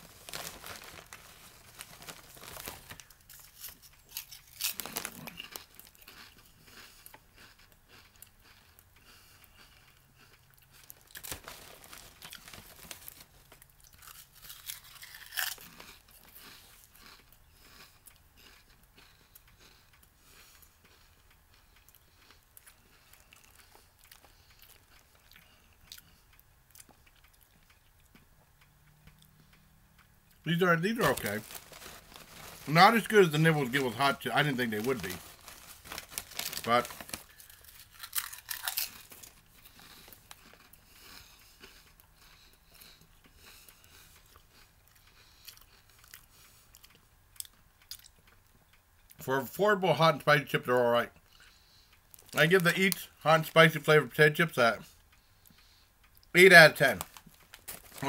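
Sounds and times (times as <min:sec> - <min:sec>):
person crunching potato chips: 0:00.0 - 0:27.5, 0:30.5 - 0:48.3, 0:56.8 - 0:58.0.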